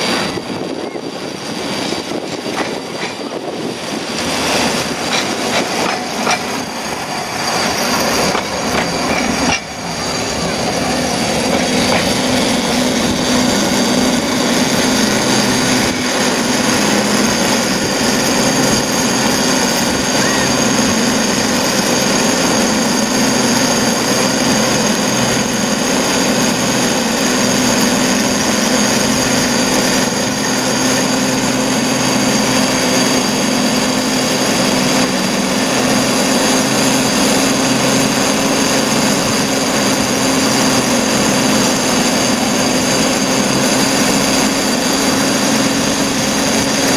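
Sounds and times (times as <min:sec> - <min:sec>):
cable whirring over pulleys: 0:00.0 - 0:46.9.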